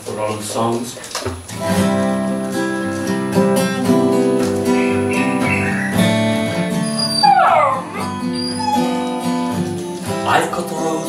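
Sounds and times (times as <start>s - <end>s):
acoustic guitar strumming: 1.4s - 11.0s.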